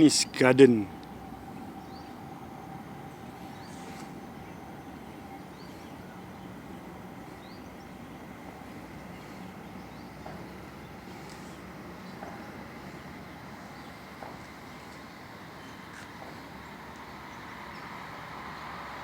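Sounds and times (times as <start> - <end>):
bird chirps: 1.5 - 18.0.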